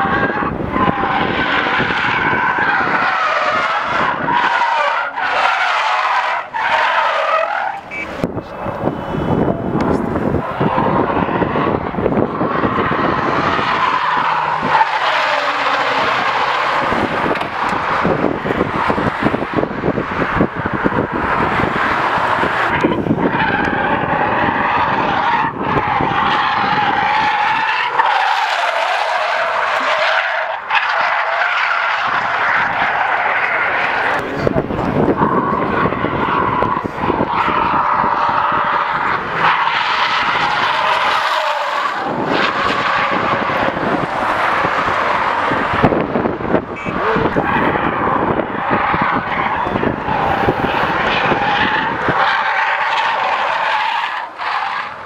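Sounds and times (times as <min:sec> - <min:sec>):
car engine noise: 0:00.0 - 0:55.0
car tyres squealing: 0:00.0 - 0:55.0.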